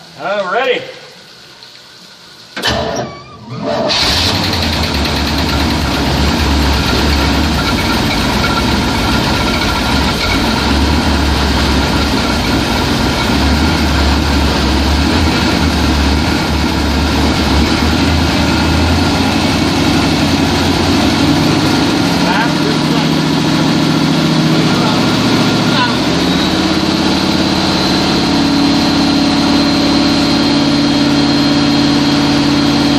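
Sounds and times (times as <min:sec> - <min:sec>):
boat engine idling: 0:03.9 - 0:32.9.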